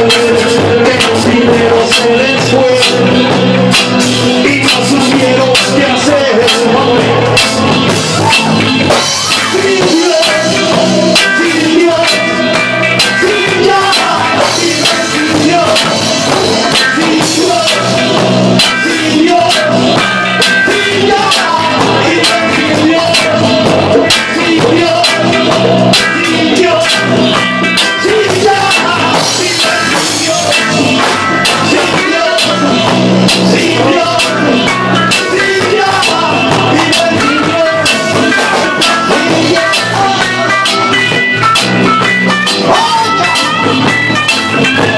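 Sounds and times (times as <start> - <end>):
drum kit beat: 0.0 - 44.9
reggae band playing: 0.0 - 44.9.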